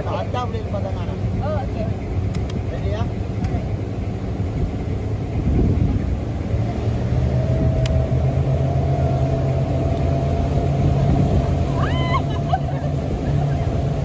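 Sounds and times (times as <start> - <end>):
outboard engine running: 0.0 - 14.0
rushing wind and water: 0.0 - 14.0.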